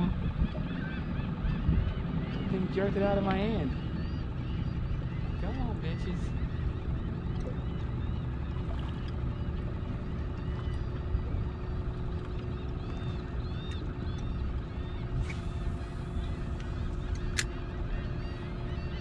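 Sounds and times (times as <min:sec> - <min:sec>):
outboard motor idling: 0:00.0 - 0:19.0
wind rumble on microphone: 0:00.0 - 0:19.0.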